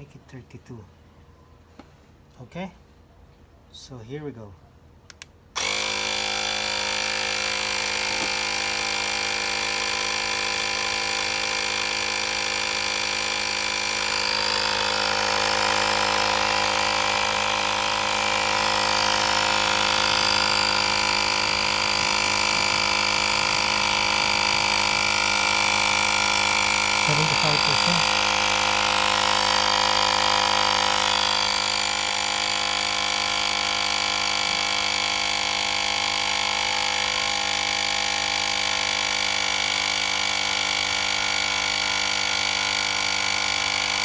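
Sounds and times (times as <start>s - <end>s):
air compressor running: 5.6s - 44.0s.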